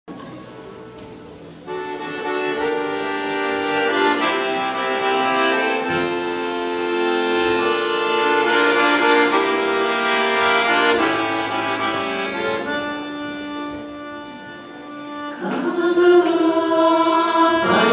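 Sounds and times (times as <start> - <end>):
accordion playing chords: 0.6 - 17.9.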